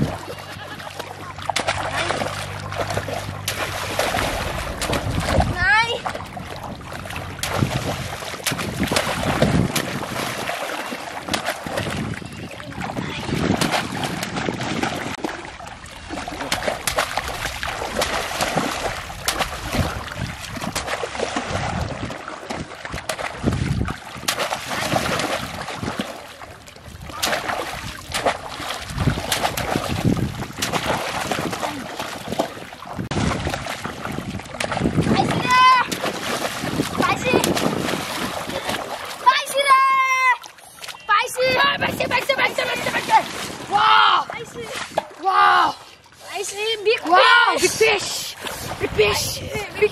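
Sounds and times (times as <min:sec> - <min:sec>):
shallow water splashing: 0:00.0 - 0:49.9.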